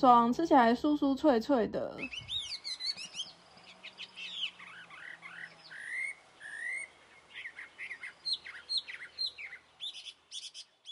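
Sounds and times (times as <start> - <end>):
small birds chirping: 0.0 - 10.9
long rising bird whistles: 2.1 - 10.9.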